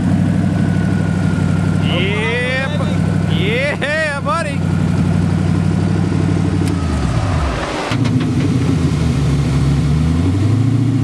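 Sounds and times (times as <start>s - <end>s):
buggy engine running: 0.0s - 11.0s.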